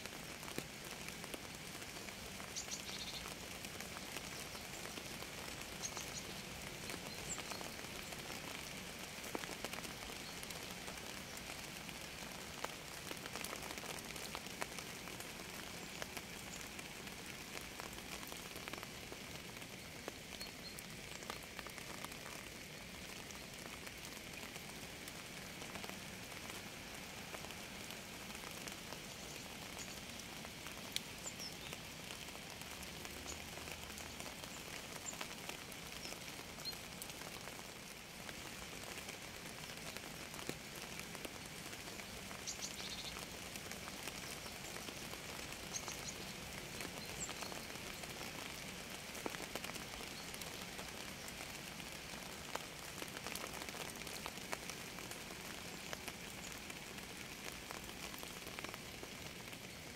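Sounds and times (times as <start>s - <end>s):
raindrops ticking: 0.0s - 59.9s
steady rain: 0.0s - 59.9s.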